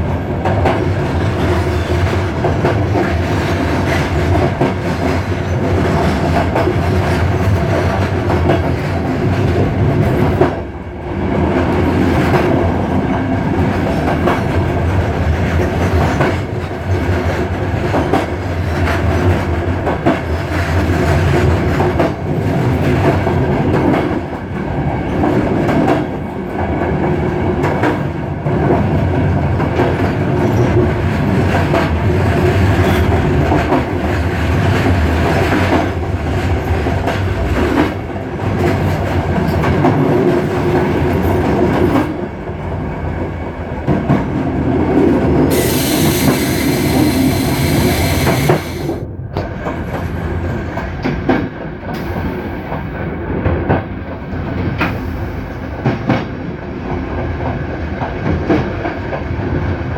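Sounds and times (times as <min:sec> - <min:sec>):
clickety-clack over rail joints: 0:00.0 - 0:47.4, 0:48.4 - 0:59.9
train wheels rumbling on rails: 0:00.0 - 0:59.9.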